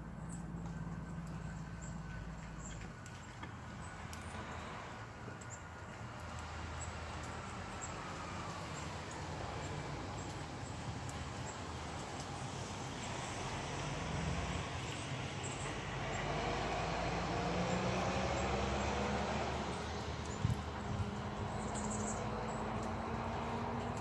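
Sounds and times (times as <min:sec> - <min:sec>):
distant engine hum: 0:00.0 - 0:24.0
outdoor background noise: 0:00.0 - 0:24.0.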